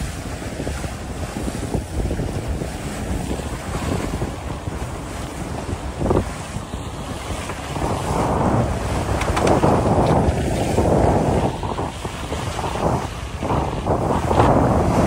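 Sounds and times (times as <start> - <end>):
water rushing past hulls: 0.0 - 15.0
wind buffeting microphone: 0.0 - 15.0.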